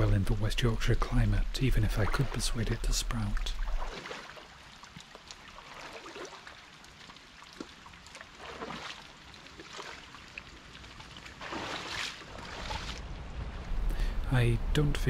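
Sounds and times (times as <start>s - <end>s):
legs wading through water: 0.0s - 13.7s
river flowing: 0.0s - 14.2s.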